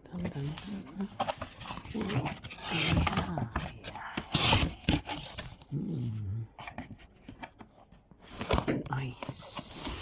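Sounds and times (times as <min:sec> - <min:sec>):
cardboard and paper rustling: 0:00.0 - 0:10.0.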